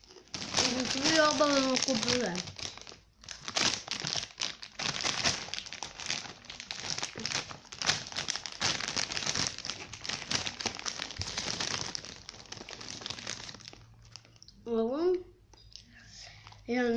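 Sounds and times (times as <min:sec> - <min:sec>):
hand rummaging in chip bag: 0:00.0 - 0:14.4
chip bag crinkling: 0:00.0 - 0:14.5.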